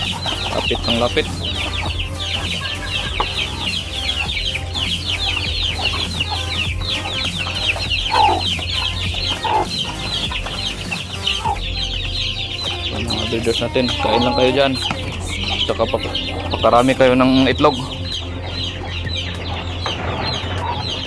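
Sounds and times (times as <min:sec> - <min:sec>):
chickens clucking: 0:00.0 - 0:21.0
fast high-pitched chirping: 0:00.0 - 0:21.0.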